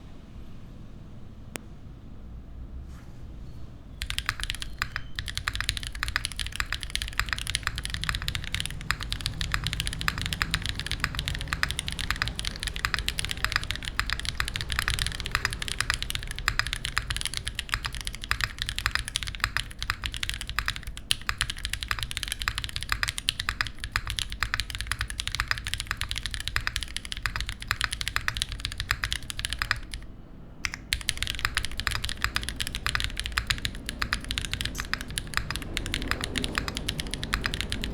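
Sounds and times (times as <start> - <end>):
mechanical keyboard typing: 4.0 - 37.9.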